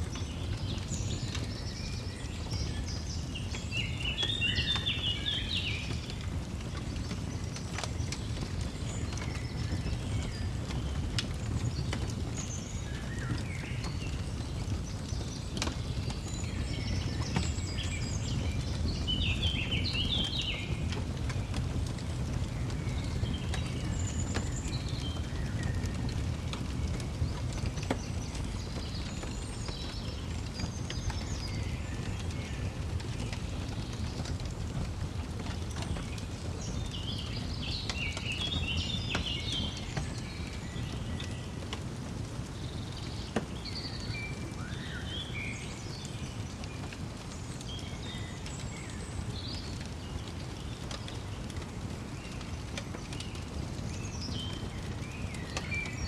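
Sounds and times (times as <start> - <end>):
songbirds chirping: 0.0 - 56.0
wood fire crackling: 0.0 - 56.0.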